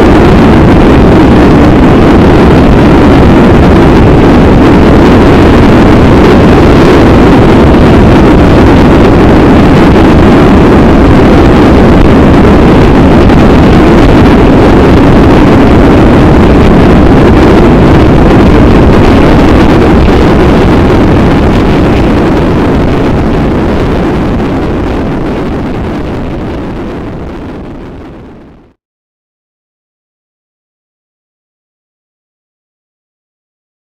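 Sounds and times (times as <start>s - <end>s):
wind rushing on microphone: 0.0s - 28.8s.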